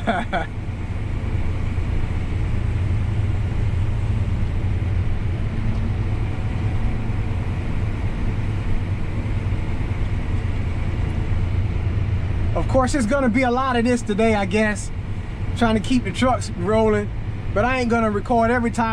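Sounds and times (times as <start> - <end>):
tractor engine rumble: 0.0 - 18.9.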